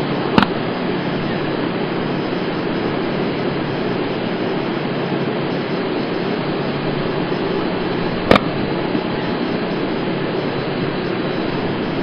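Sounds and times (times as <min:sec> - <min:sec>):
distant jet engines roaring: 0:00.0 - 0:12.0.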